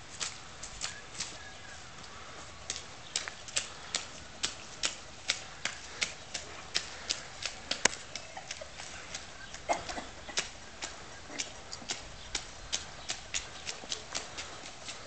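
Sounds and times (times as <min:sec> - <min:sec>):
footsteps on pavement: 0:00.0 - 0:15.0.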